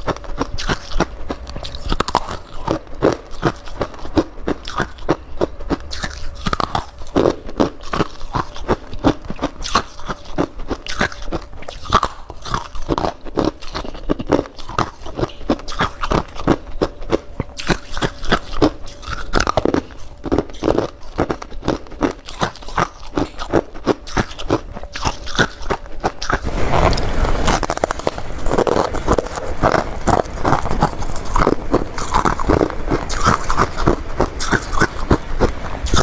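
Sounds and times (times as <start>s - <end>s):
chewing crunchy frost: 0.0s - 36.0s.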